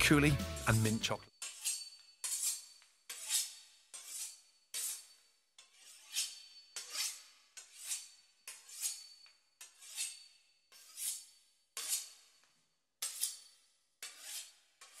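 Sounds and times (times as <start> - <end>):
knife sawing through crisp pastry: 1.4 - 12.4, 13.0 - 15.0.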